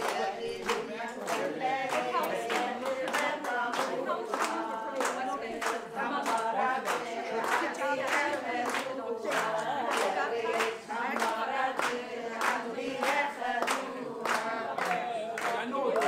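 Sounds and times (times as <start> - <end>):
group singing without instruments: 0.0 - 16.0
people clapping in time: 0.0 - 16.0.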